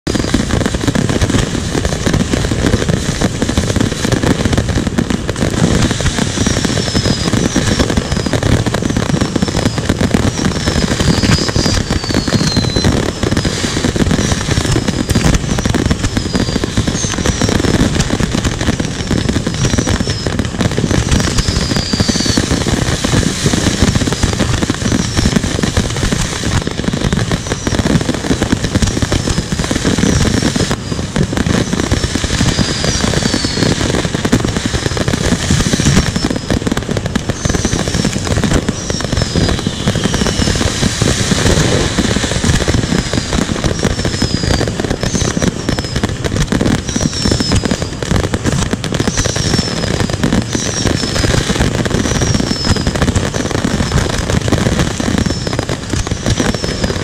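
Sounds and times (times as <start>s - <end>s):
fireworks bursting and crackling: 0.0s - 57.0s
falling firework whistles: 0.1s - 57.0s.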